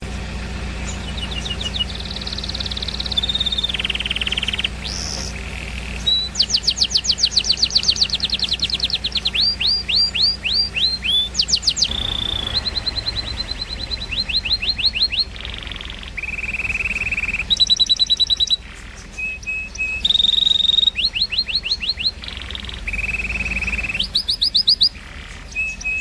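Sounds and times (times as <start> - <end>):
low hum: 0.0 - 24.2
birds singing: 0.0 - 26.0.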